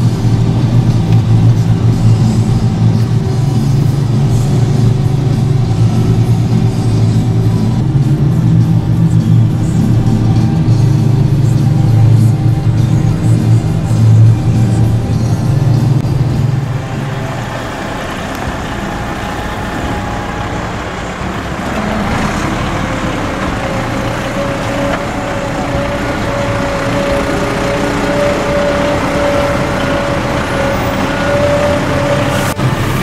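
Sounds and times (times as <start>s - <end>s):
diesel farm machinery running: 0.0s - 33.0s
steady whine: 0.0s - 33.0s.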